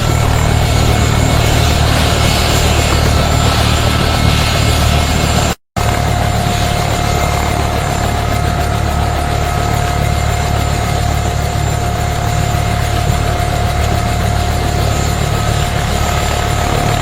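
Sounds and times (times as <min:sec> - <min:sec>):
helicopter turbine whine: 0:00.0 - 0:17.0.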